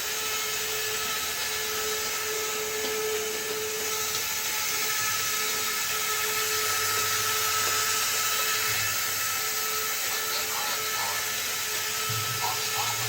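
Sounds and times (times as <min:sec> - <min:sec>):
toy monorail electric motor whining: 0:00.0 - 0:13.0.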